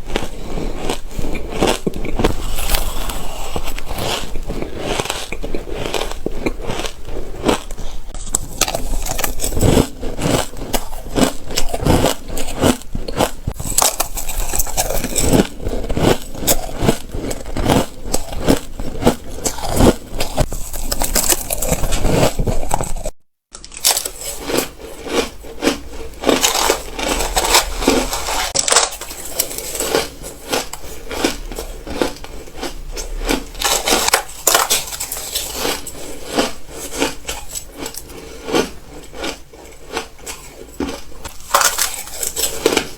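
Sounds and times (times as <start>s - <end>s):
ice crunching between teeth: 0.0s - 42.9s.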